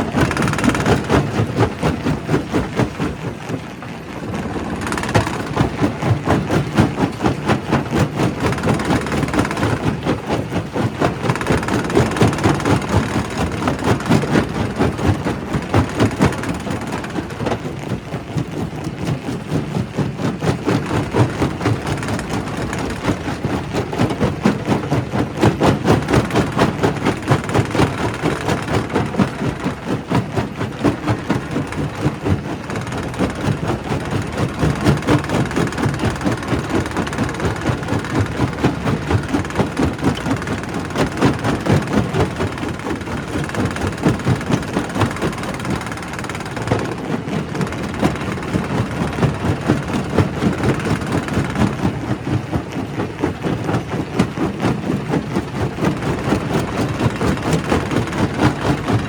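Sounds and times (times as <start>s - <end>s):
rock crusher rumbling: 0.0s - 18.0s, 20.6s - 53.4s.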